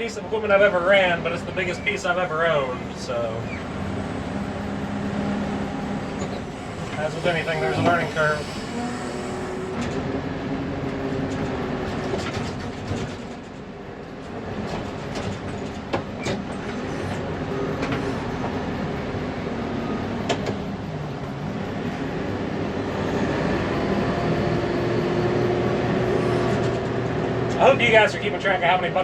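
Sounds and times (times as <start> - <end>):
backhoe diesel engine under load: 0.0 - 28.6.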